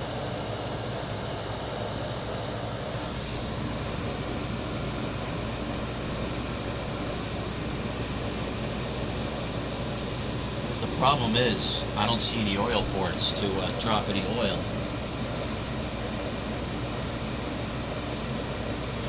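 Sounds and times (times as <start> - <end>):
air conditioner compressor hum: 0.0 - 19.0
air conditioner fan rushing: 0.0 - 19.0.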